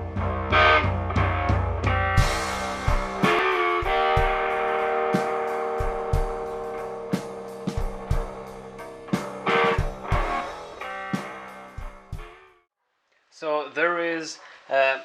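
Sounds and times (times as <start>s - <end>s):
electric guitar: 0.0s - 12.4s
drum kit steady beat: 0.0s - 12.6s.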